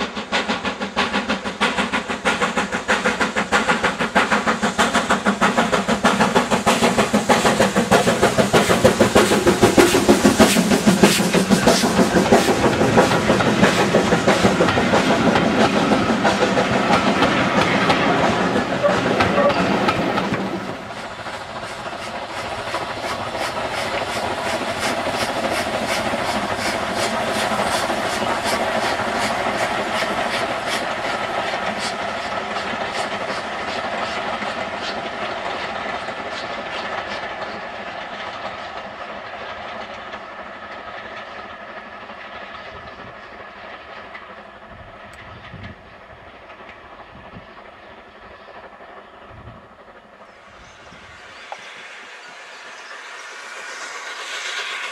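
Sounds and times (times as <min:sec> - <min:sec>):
steam locomotive exhaust chuffs: 0:00.0 - 0:54.9.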